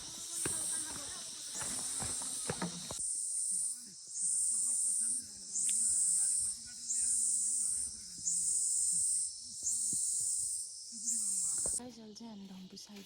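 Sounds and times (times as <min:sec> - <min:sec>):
cicada buzzing: 0:00.0 - 0:11.8.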